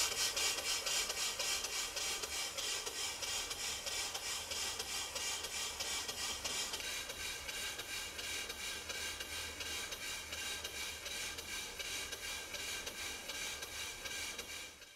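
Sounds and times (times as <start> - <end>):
model steam engine chuffing: 0.0 - 14.9.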